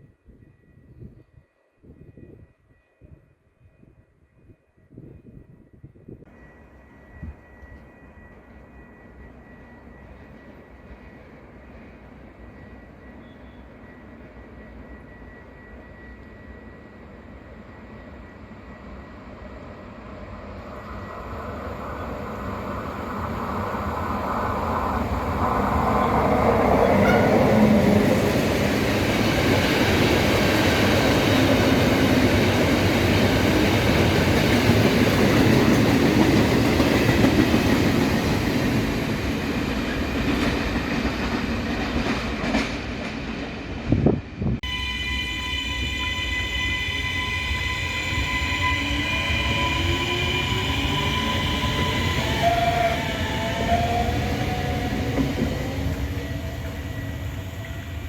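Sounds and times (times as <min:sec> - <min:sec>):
train rumble and wheel clatter: 0:00.0 - 0:44.8, 0:46.0 - 0:58.0.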